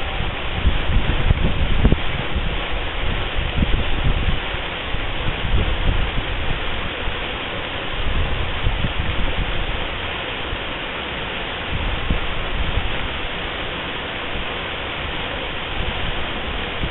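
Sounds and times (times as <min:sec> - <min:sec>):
wind buffeting microphone: 0:00.0 - 0:10.2, 0:11.6 - 0:13.4, 0:14.2 - 0:16.9
waterfall pouring: 0:00.0 - 0:16.9.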